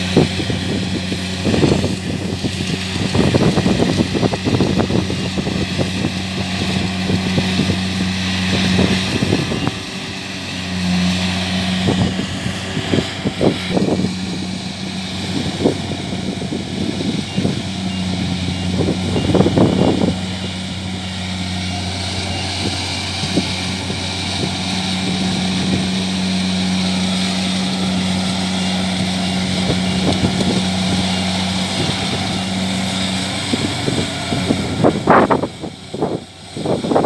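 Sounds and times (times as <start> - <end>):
combine harvester diesel engine: 0.0 - 37.0
machinery whirring: 0.0 - 37.0.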